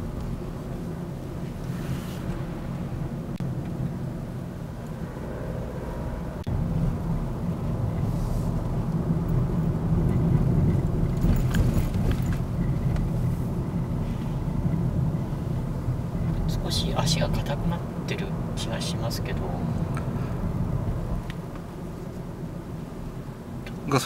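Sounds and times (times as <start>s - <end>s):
car interior rumble: 0.0s - 24.0s.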